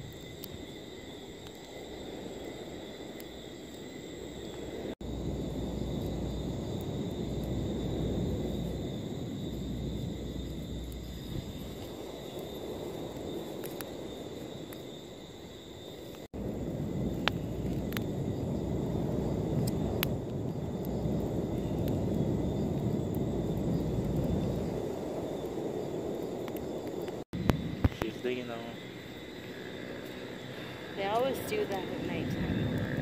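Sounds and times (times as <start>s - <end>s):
campfire crackling pops: 0.0s - 30.4s, 31.0s - 33.0s
fire low rushing noise: 3.9s - 14.6s, 16.3s - 33.0s.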